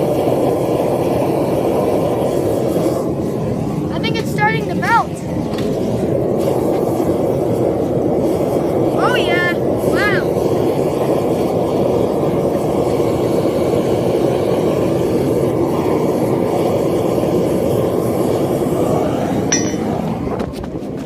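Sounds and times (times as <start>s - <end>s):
propane burner flame roaring: 0.0s - 21.0s.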